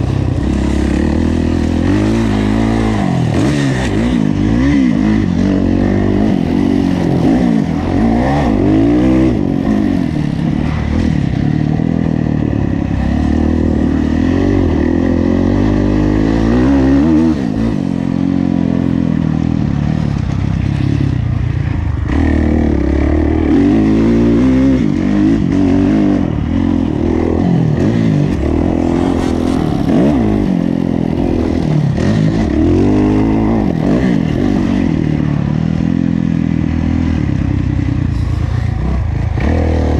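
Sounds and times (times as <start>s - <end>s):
motocross engine revving: 0.0s - 19.2s, 21.9s - 39.9s.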